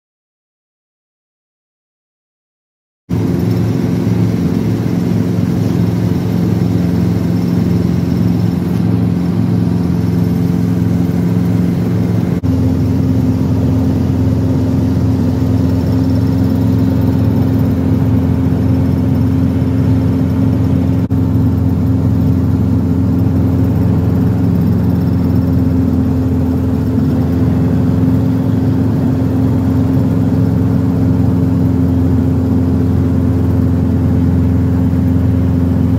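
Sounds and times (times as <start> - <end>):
helicopter engine and rotor drone: 3.1 - 35.9.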